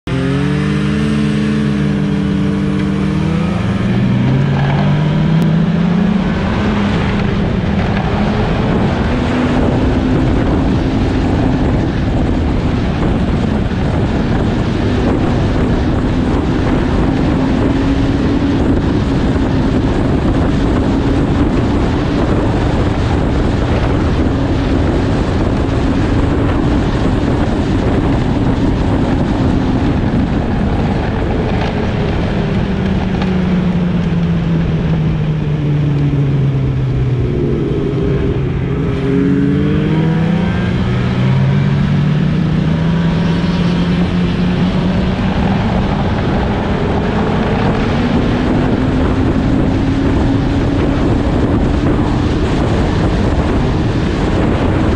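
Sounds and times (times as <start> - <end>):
broad rushing noise: 0.0 - 54.9
snowmobile engine accelerating: 0.0 - 54.9.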